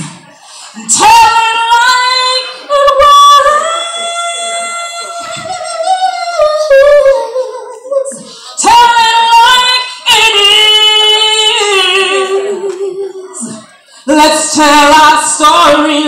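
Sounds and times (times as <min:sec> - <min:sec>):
woman singing unaccompanied: 0:00.8 - 0:16.0.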